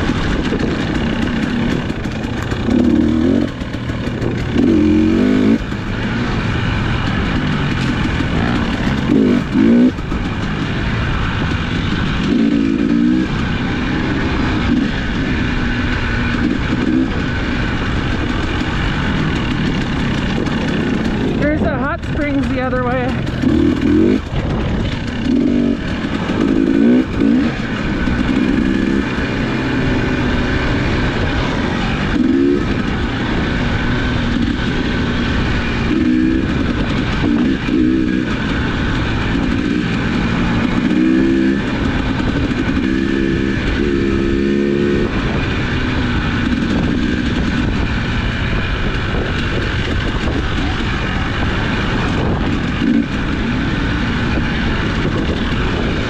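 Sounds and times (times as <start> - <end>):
dirt bike engine revving: 0.0 - 56.0
wind rumbling on microphone: 0.0 - 56.0.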